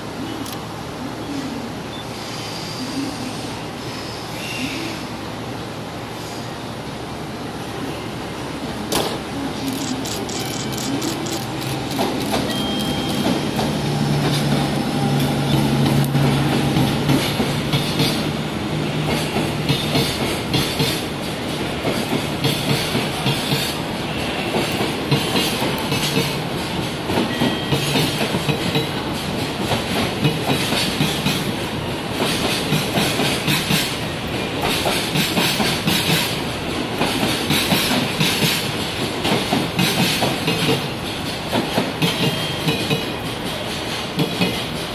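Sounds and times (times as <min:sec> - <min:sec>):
train rumble: 0:00.0 - 0:44.9
train wheels clickety-clack: 0:08.9 - 0:44.9.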